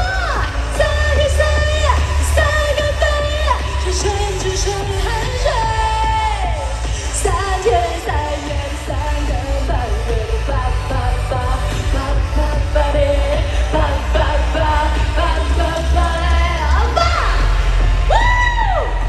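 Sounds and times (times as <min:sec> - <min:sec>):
live pop song with band: 0:00.0 - 0:19.0
steady bass line: 0:00.0 - 0:19.0.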